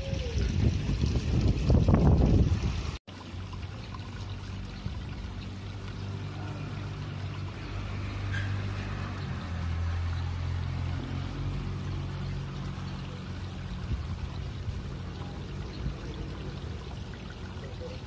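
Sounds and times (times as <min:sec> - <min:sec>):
water flowing and trickling: 0:00.0 - 0:18.0
low engine hum: 0:00.2 - 0:18.0.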